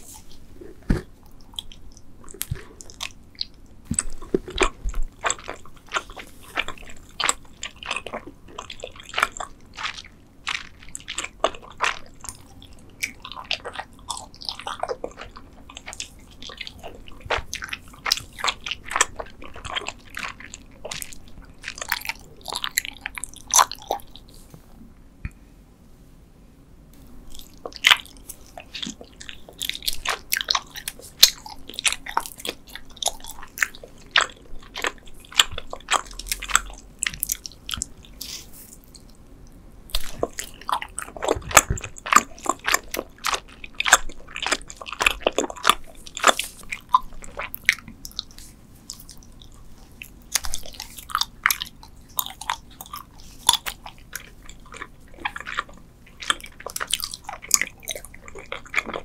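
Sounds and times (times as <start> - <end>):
chewing gummy candy: 0.0 - 24.4, 27.2 - 59.0.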